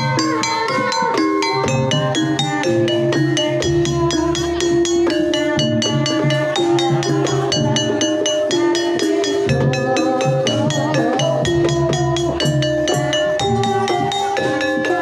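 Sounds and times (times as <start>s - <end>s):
gamelan keyed instruments: 0.0s - 15.0s
hand drum: 0.0s - 15.0s.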